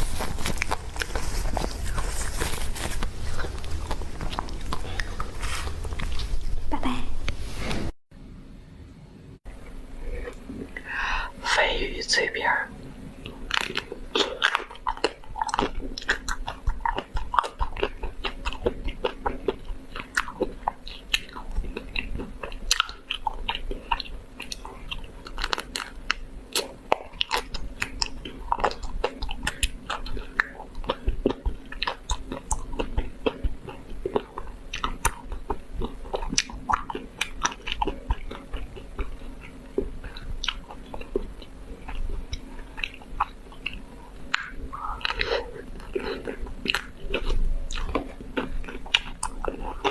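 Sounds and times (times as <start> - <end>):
chewing: 0.0 - 7.4, 9.6 - 10.9, 12.8 - 49.9
faint steady hum: 0.0 - 49.9.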